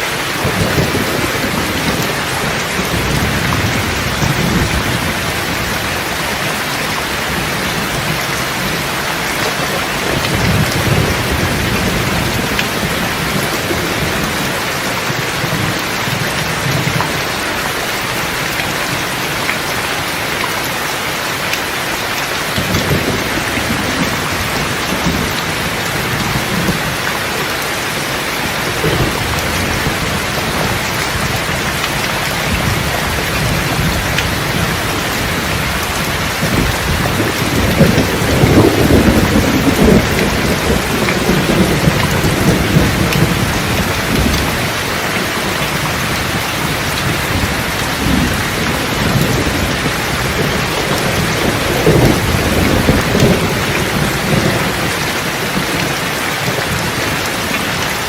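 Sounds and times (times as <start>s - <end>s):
heavy rain: 0.0s - 58.0s
low rolling thunder: 0.2s - 19.7s, 22.5s - 57.9s.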